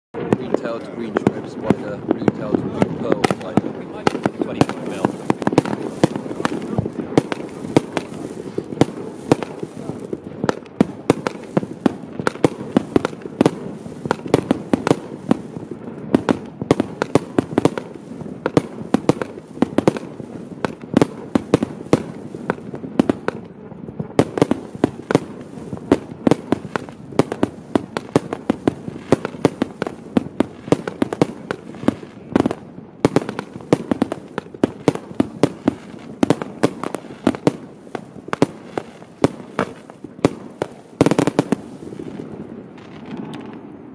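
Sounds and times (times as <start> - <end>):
firework bangs and pops: 0.2 - 43.9
firework crackle: 0.2 - 43.9.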